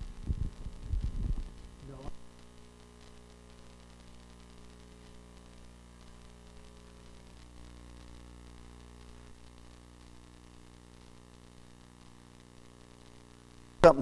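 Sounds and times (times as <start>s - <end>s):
electrical mains hum with hiss: 0.0s - 14.0s.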